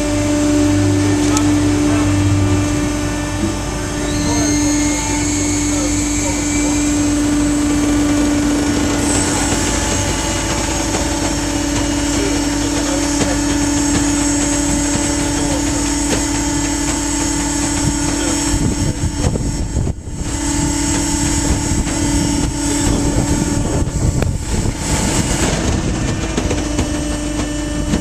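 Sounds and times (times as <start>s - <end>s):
hydraulic power pack humming: 0.0s - 28.0s.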